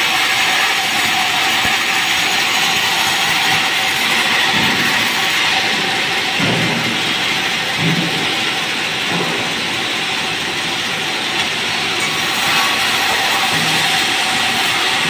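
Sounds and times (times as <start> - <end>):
band saw cutting wood: 0.0 - 15.0.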